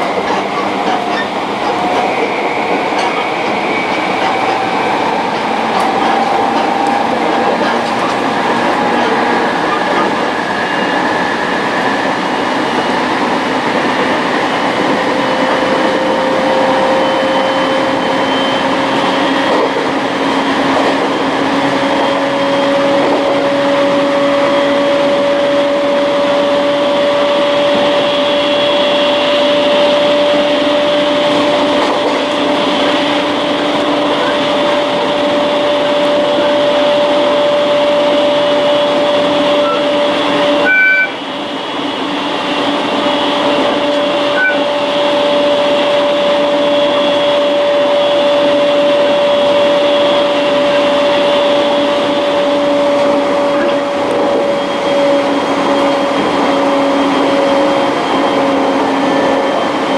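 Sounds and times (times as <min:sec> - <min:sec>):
electric train running: 0:00.0 - 0:59.9
steady train whine: 0:00.0 - 0:59.9.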